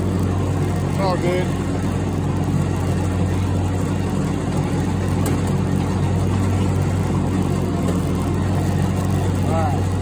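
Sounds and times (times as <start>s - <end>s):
riding lawn mower engine: 0.0s - 10.0s.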